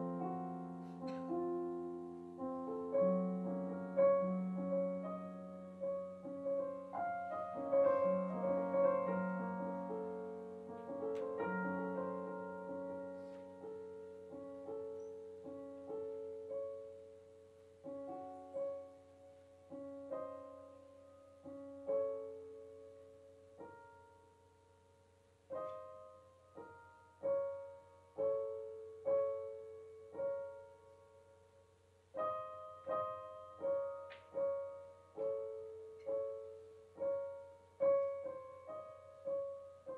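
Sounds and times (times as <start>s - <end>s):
slow solo piano piece: 0.0s - 39.9s.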